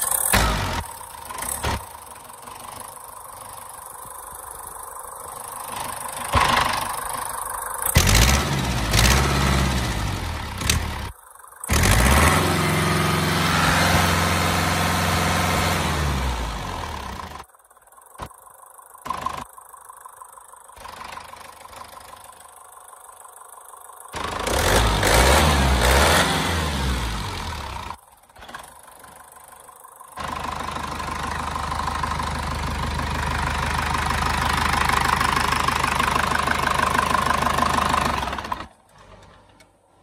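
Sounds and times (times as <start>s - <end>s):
diesel engine running: 0.0s - 17.5s, 19.1s - 28.0s, 29.0s - 38.8s.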